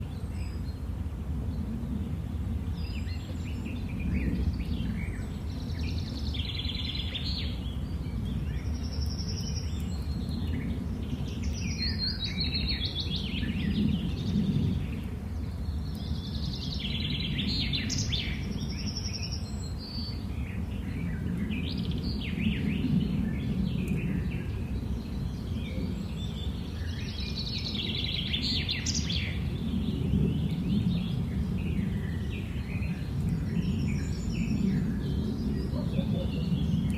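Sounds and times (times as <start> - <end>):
songbirds chirping and trilling: 0.0 - 36.9.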